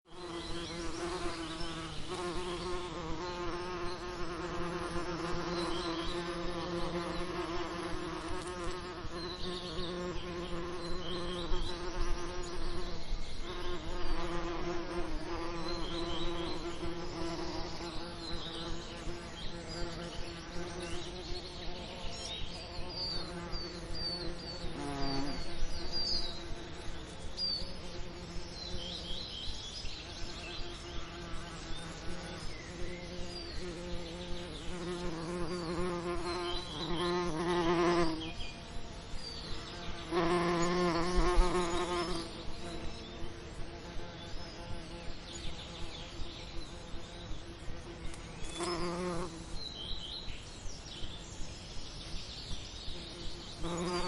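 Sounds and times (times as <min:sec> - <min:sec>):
other insects: 0:00.0 - 0:54.0
bees buzzing: 0:00.1 - 0:29.2, 0:30.1 - 0:49.7, 0:53.0 - 0:54.0.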